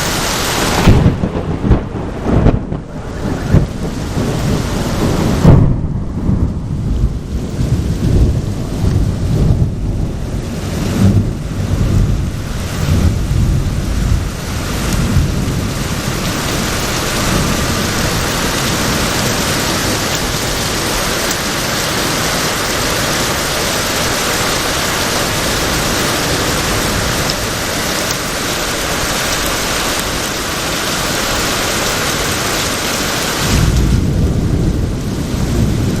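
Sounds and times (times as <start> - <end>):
heavy rain: 0.0 - 36.0
thunder rumbling: 0.0 - 36.0.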